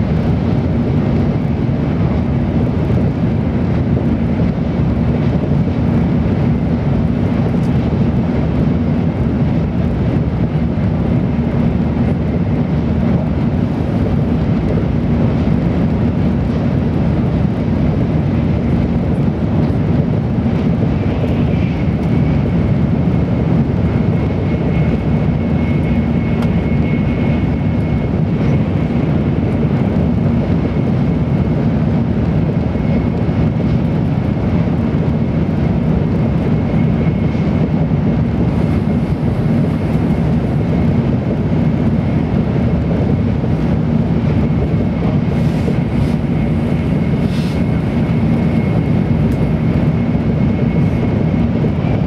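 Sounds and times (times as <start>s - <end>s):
train running low rumble: 0.0s - 52.0s.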